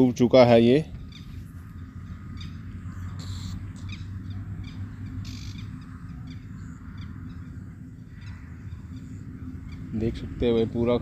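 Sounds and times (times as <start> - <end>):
birds chirping: 0.0 - 11.0
steady low rumble: 0.0 - 11.0
rasping bird calls: 0.9 - 11.0.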